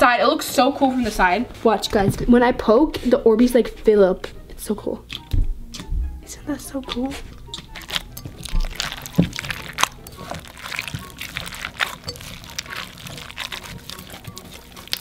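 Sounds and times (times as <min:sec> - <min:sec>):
water beads squelching in bowl: 0:00.9 - 0:15.0.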